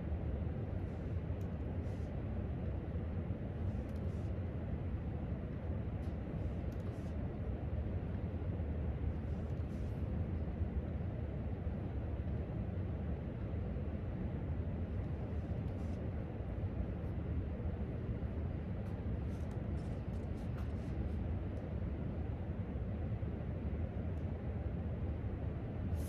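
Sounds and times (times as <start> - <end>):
low room rumble: 0.0 - 26.0.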